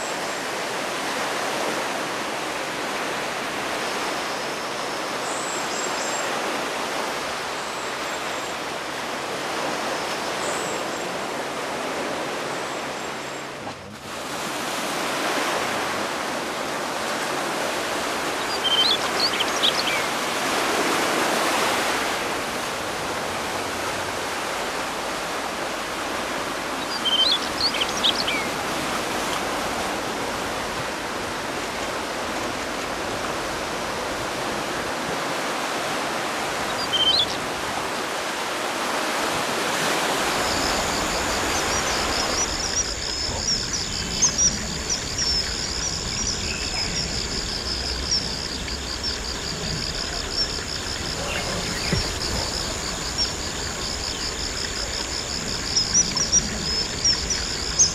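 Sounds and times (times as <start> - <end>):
stream running: 0.0 - 57.9.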